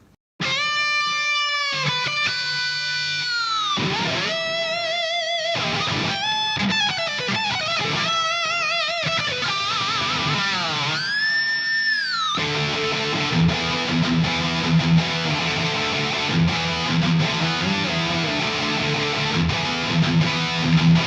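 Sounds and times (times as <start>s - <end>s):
distorted electric guitar lead: 0.4s - 21.0s.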